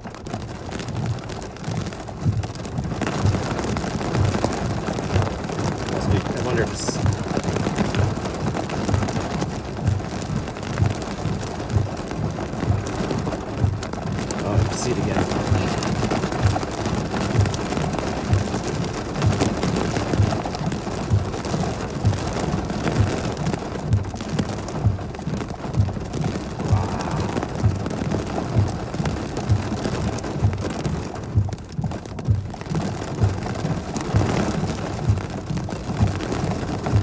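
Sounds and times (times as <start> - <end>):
heavy rain pouring: 0.0 - 37.0
regular low thump: 0.0 - 37.0.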